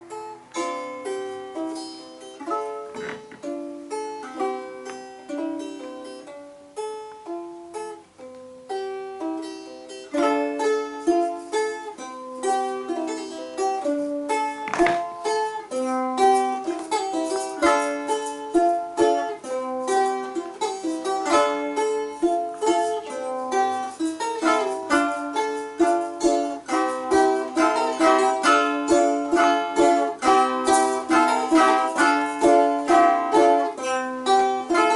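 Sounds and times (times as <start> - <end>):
balalaikas playing a tune: 0.0 - 34.9.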